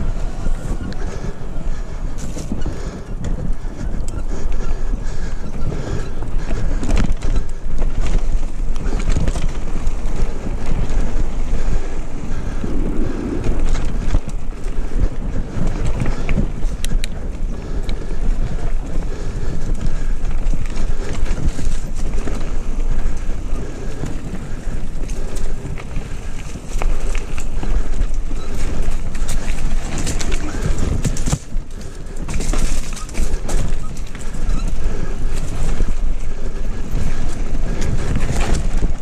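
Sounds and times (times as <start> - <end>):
bike clattering over bumps: 0.0 - 39.0
wind rumble on microphone: 0.0 - 39.0.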